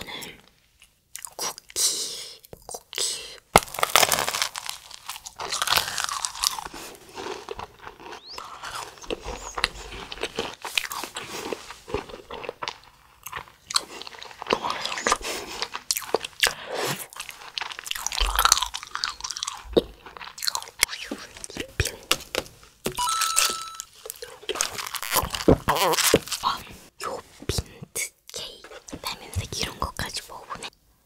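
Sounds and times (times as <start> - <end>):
crunchy cookie chewing: 0.8 - 26.8.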